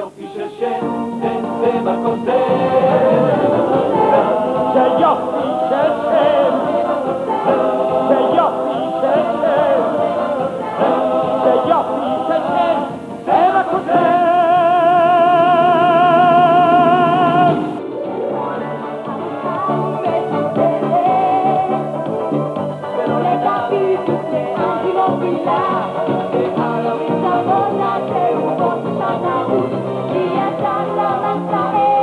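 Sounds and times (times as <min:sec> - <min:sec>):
ensemble singing musical song: 0:00.0 - 0:32.0
band playing: 0:00.1 - 0:31.6.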